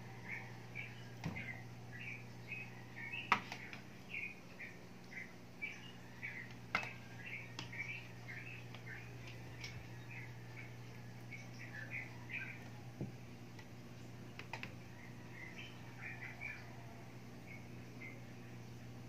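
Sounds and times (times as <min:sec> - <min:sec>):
low steady hum: 0:00.0 - 0:19.0
small bird chirping: 0:00.2 - 0:12.8, 0:14.3 - 0:16.8, 0:17.4 - 0:18.8.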